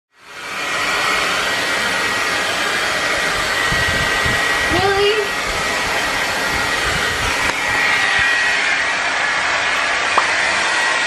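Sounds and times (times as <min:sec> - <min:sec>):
hair dryer blowing: 0:00.2 - 0:11.0.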